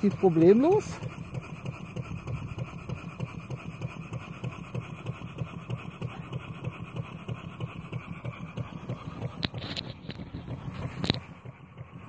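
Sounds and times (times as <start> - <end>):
model steam engine chuffing: 0.0 - 12.0.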